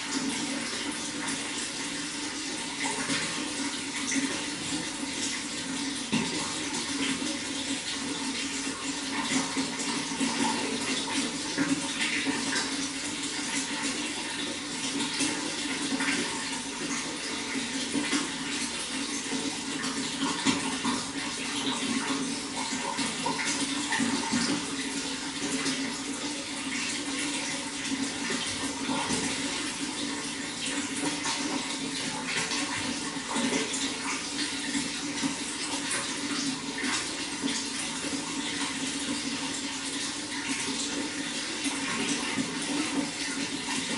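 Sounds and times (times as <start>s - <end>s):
running water splashing: 0.0s - 43.9s.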